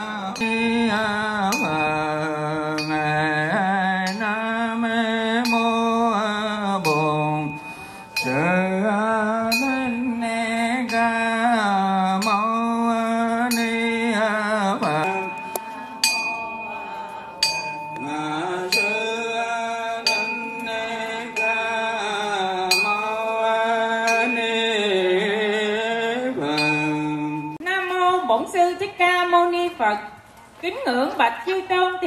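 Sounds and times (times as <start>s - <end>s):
person singing chant-like song: 0.0s - 27.6s.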